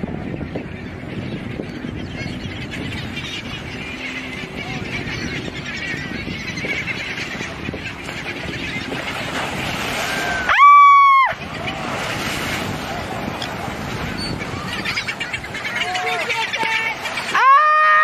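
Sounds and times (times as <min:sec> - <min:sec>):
low rush of wind and water: 0:00.0 - 0:18.0
seabirds squawking: 0:00.0 - 0:18.0.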